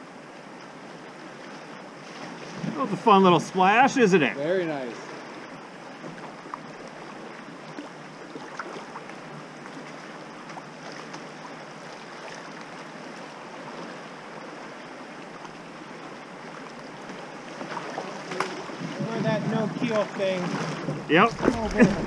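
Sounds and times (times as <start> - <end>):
river water rushing and splashing: 0.0 - 22.0.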